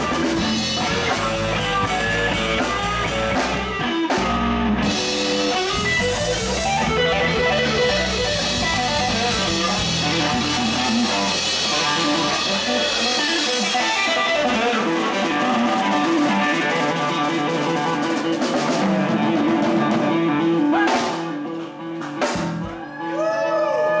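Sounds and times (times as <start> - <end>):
live band playing blues rock: 0.0 - 23.5.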